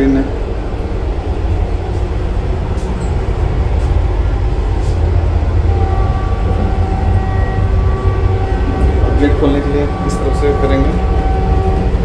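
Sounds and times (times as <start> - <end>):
steady whine: 0.0 - 12.0
train rumble: 0.0 - 12.0.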